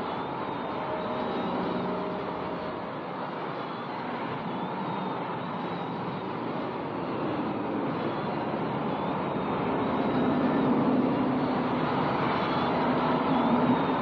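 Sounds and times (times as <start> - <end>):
expressway traffic rush: 0.0 - 14.0
faint droning tones: 0.0 - 14.0.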